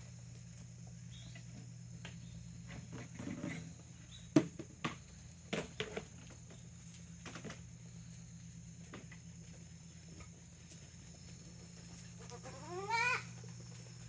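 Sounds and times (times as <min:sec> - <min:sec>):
goat hooves shuffling and clopping: 0:00.0 - 0:14.0
steady low hum: 0:00.0 - 0:14.0.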